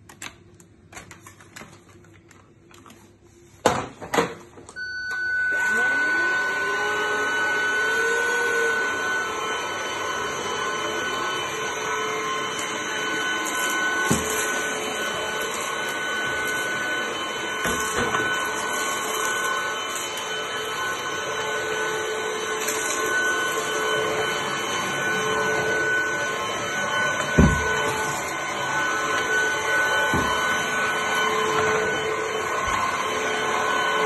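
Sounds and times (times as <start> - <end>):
vacuum cleaner whining: 3.6 - 34.0.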